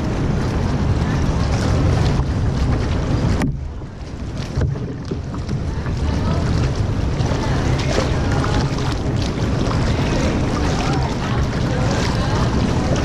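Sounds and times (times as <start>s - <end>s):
water washing: 0.0s - 13.0s
wind rumbling on microphone: 0.0s - 13.0s.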